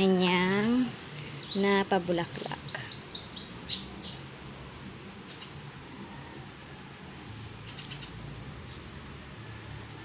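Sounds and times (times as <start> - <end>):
small birds chirping: 0.0 - 9.4
faint steady background noise: 0.0 - 10.0.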